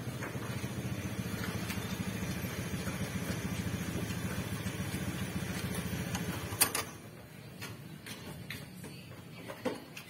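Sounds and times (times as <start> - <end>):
engine idling: 0.0 - 8.4.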